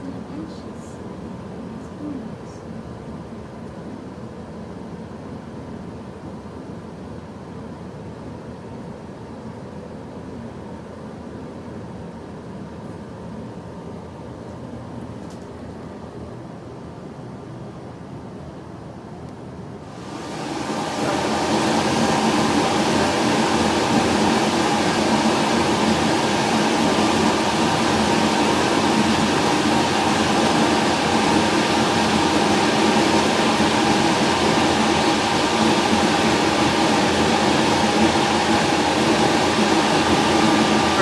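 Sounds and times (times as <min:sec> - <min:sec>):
ventilation blower running: 0:00.0 - 0:41.0.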